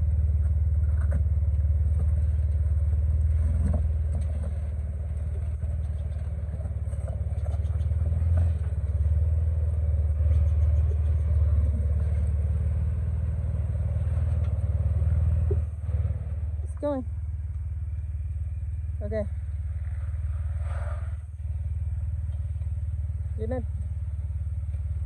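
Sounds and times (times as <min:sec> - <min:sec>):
car engine running low: 0:00.0 - 0:25.0.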